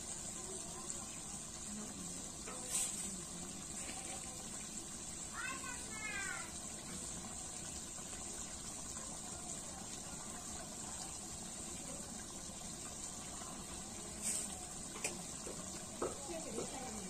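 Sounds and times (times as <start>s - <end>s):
curry bubbling in a pot: 0.0s - 17.0s.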